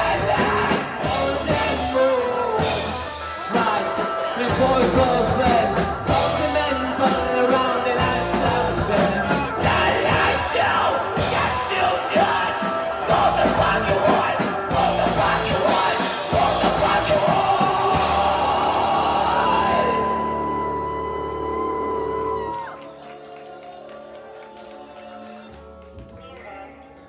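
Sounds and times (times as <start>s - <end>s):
live rock band playing: 0.0s - 22.6s
sung and shouted vocals: 0.0s - 27.0s.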